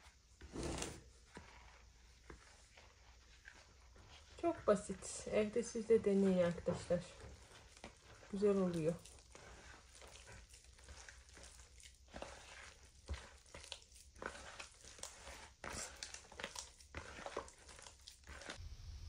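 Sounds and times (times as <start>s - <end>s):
hands kneading wet dough: 0.0s - 18.6s.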